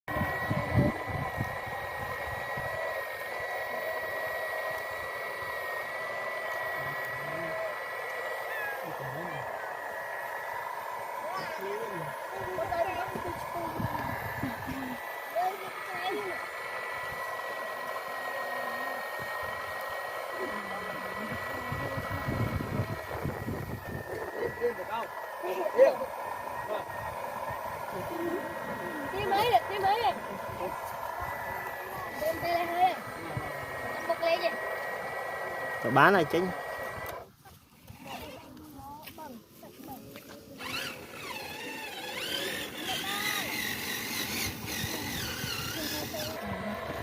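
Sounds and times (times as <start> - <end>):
small electric motor whining: 0.1 - 47.0.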